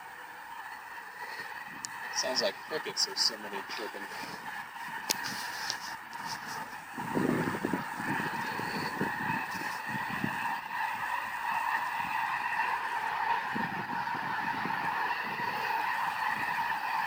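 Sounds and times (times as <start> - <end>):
flock of waterfowl calling: 0.0 - 17.0.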